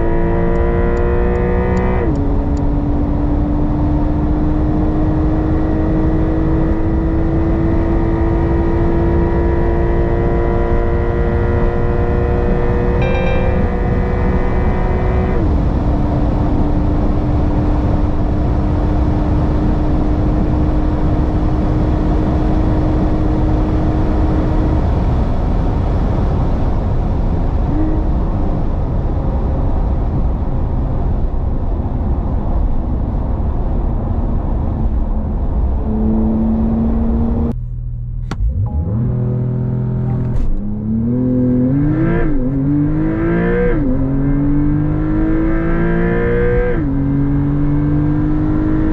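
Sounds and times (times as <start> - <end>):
car engine at high speed: 0.0 - 48.9
wind and road noise: 0.0 - 48.9.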